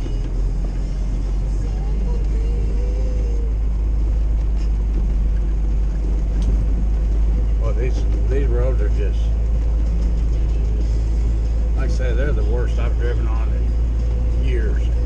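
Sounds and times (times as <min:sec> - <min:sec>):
car engine rumble: 0:00.0 - 0:15.0
tyres on snowy road: 0:00.0 - 0:15.0.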